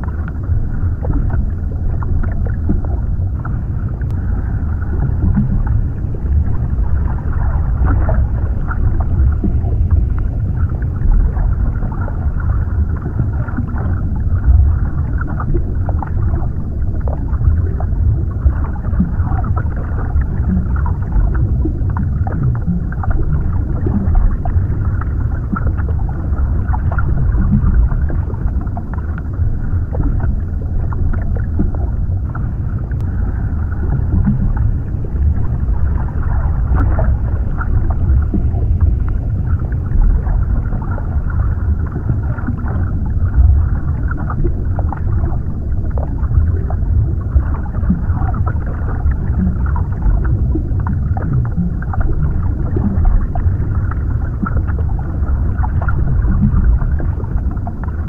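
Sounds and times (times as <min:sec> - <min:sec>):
faint bubbling and gurgling: 0:00.0 - 0:58.0
underwater rumble: 0:00.0 - 0:58.0.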